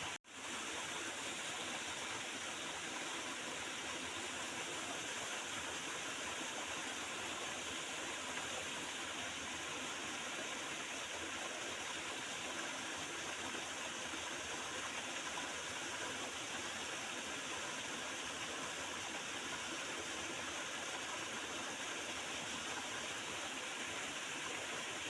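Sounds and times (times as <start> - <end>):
river water running and gurgling: 0.0 - 25.0.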